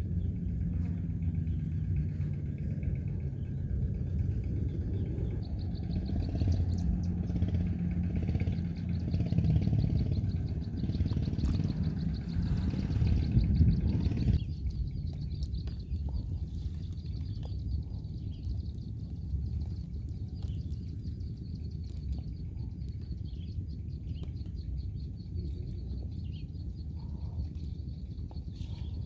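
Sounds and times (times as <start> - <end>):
low rumbling noise: 0.0 - 29.0.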